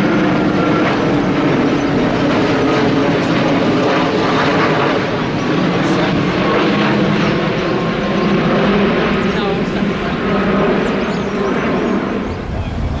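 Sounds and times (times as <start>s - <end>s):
jet engines roaring overhead: 0.0s - 13.0s.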